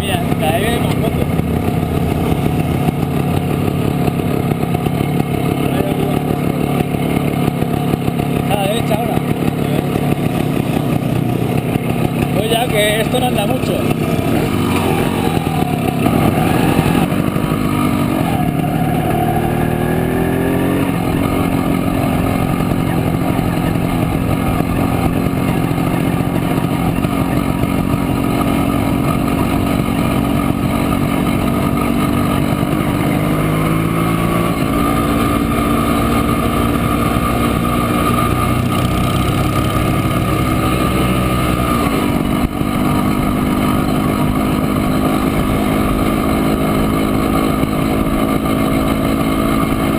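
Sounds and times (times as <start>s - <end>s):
two-stroke motorcycle engine running: 0.0s - 49.9s.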